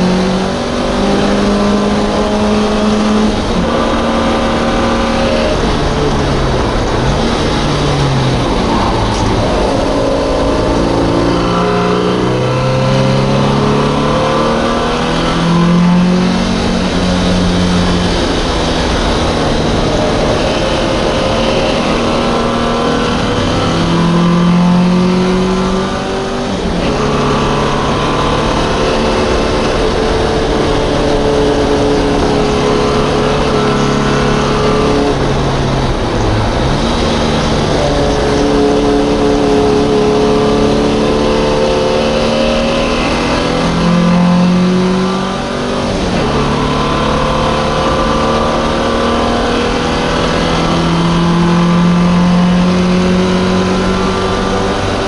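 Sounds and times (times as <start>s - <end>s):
car engine at full throttle: 0.0s - 55.0s.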